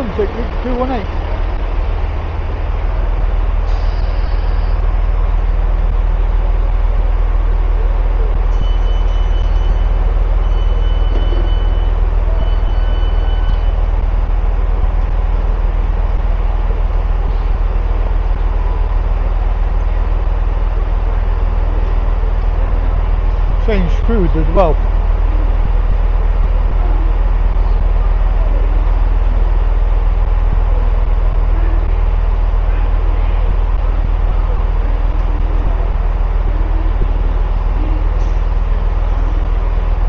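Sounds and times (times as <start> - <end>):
diesel train engine rumble: 0.0 - 40.0.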